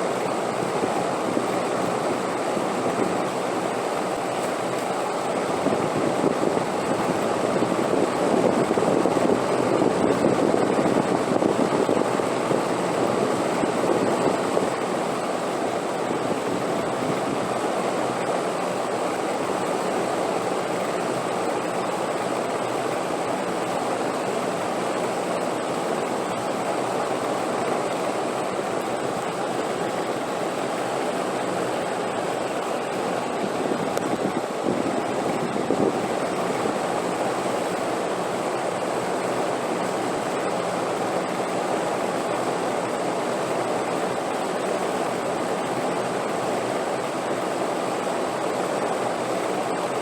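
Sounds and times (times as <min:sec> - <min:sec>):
rushing wind: 0:00.0 - 0:50.0.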